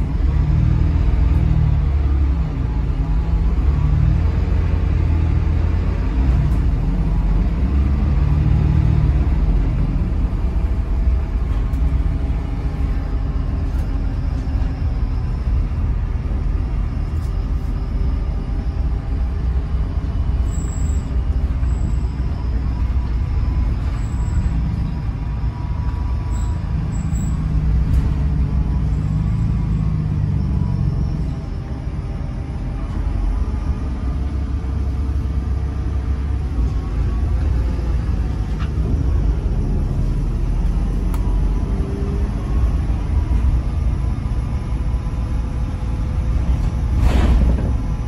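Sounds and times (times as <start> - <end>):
bus engine rumble: 0.0 - 48.0
road noise: 0.0 - 48.0.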